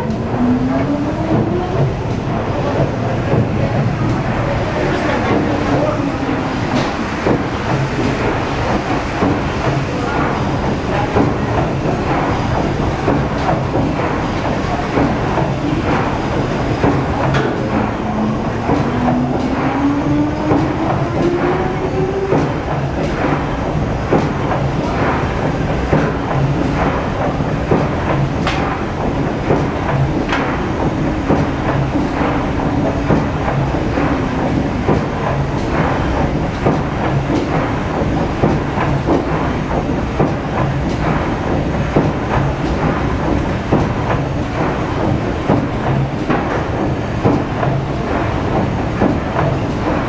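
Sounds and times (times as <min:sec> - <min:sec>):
steam engine churning and knocking: 0:00.0 - 0:50.0.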